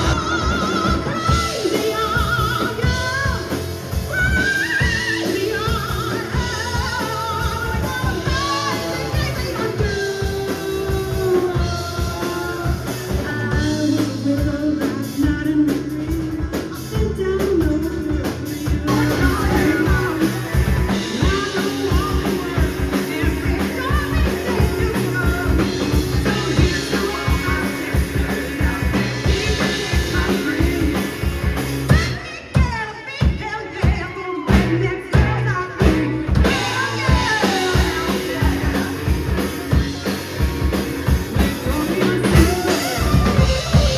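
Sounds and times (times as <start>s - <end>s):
lead vocals singing: 0.0s - 40.5s, 41.1s - 43.9s
drum kit: 0.0s - 43.9s
rock band playing: 0.0s - 43.9s.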